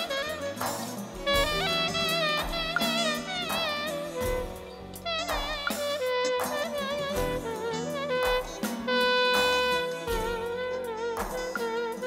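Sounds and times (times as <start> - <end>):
wavering melody over low beats: 0.0 - 12.0.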